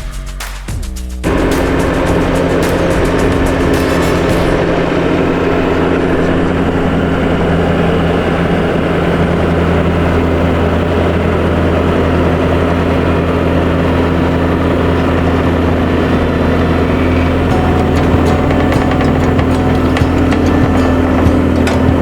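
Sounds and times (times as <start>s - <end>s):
diesel engine drone: 1.2s - 22.0s.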